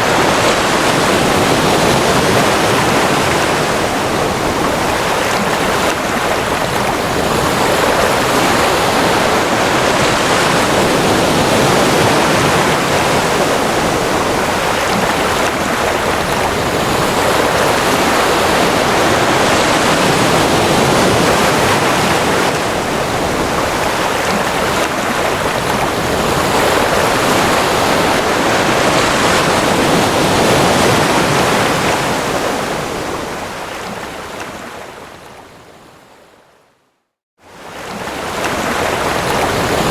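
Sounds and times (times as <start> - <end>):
ocean surf rushing: 0.0 - 35.9, 37.4 - 39.9.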